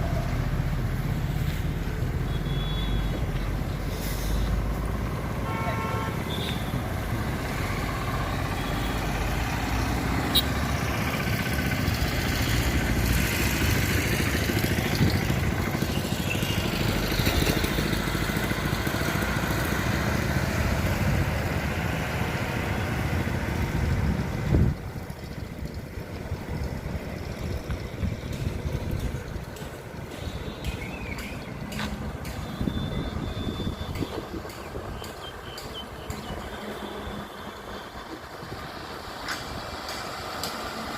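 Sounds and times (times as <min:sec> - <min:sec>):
heavy machinery engine running: 0:07.2 - 0:40.9.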